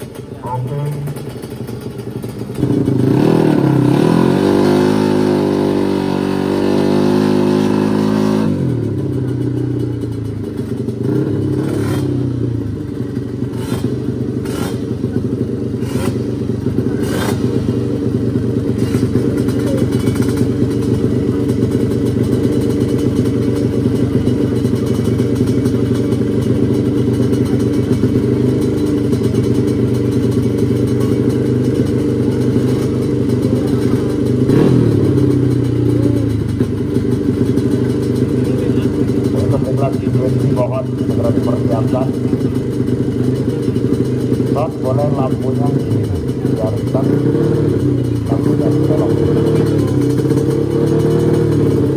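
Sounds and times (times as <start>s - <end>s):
motorcycle engine revving high: 0.0s - 51.9s
sharp exhaust cracks: 0.0s - 51.9s.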